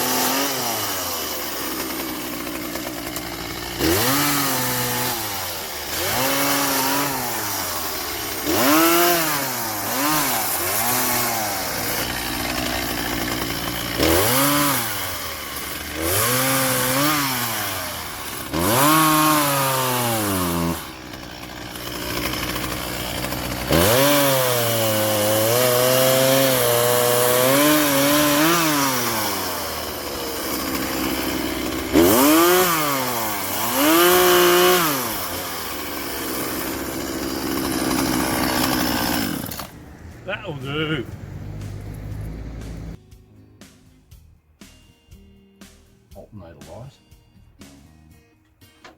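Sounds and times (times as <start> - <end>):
chainsaw revving and cutting wood: 0.0 - 43.0.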